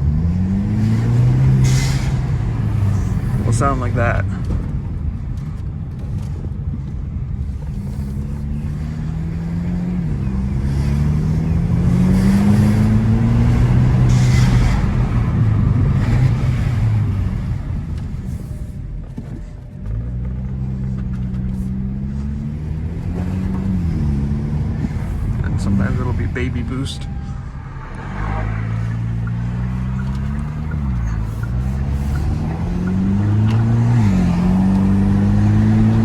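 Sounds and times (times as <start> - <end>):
turbocharged car engine revving: 0.0 - 19.2, 19.8 - 36.0.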